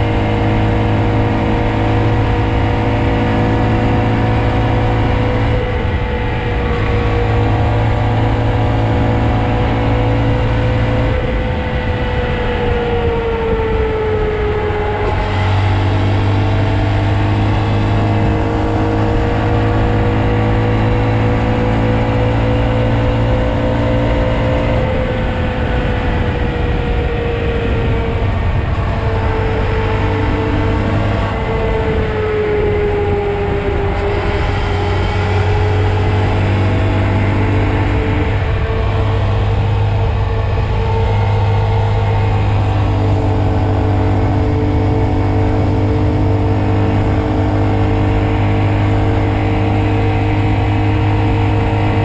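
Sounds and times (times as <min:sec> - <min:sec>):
small motorcycle engine running: 0:00.0 - 0:52.0.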